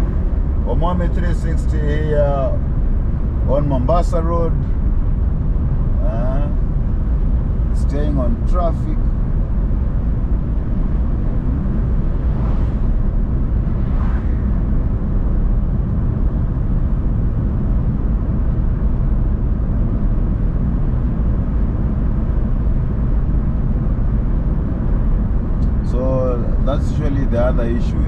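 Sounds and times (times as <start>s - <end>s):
car cruising rumble from inside: 0.0s - 28.0s.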